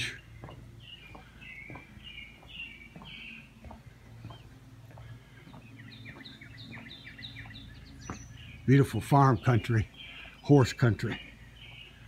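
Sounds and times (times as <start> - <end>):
footsteps on plank deck: 0.0 - 12.0
songbirds chirping: 0.0 - 12.0.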